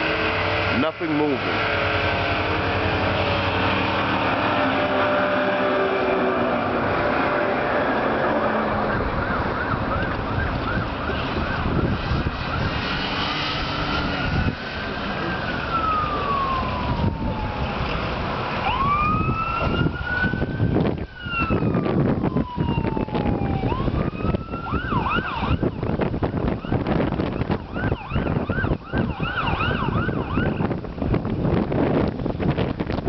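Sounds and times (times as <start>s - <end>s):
emergency siren wailing and yelping: 0.0s - 31.0s.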